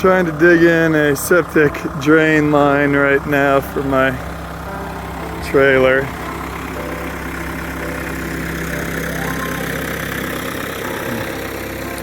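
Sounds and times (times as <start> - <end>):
backhoe engine idling: 0.0 - 12.0.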